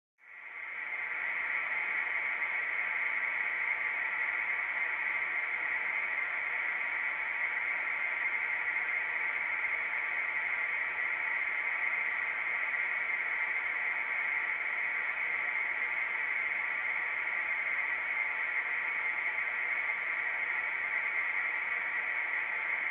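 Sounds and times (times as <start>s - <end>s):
static hiss: 0.3s - 22.9s.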